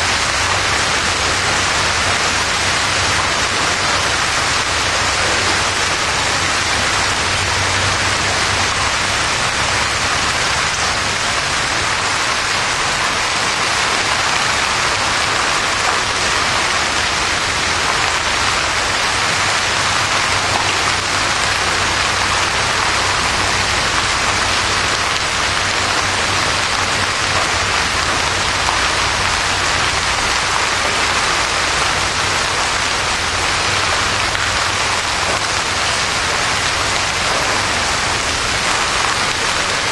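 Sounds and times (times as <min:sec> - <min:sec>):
heavy rain and hail on pavement: 0:00.0 - 0:39.9.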